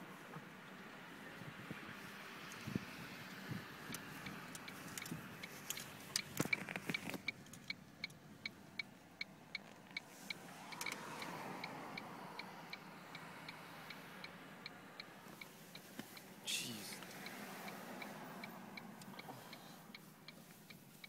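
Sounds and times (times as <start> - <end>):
car turn signal clicking: 3.3 - 16.4, 17.0 - 21.0.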